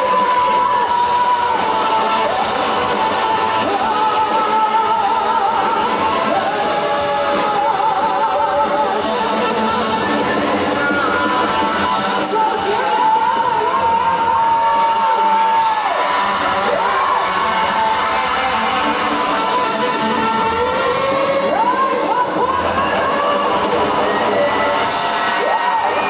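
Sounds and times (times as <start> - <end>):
bass guitar: 0.0 - 26.0
drums: 0.0 - 26.0
electric guitar: 0.0 - 26.0
person singing: 0.0 - 26.0.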